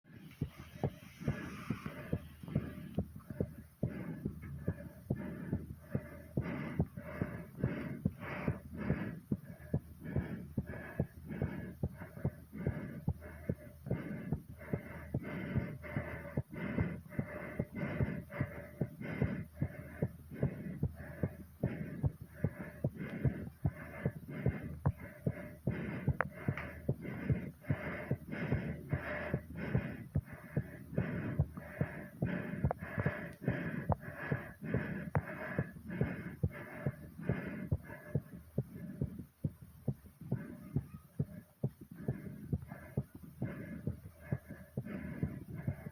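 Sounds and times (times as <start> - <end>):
fast pounding heartbeat: 0.0 - 45.9
hard breathing: 0.0 - 45.9.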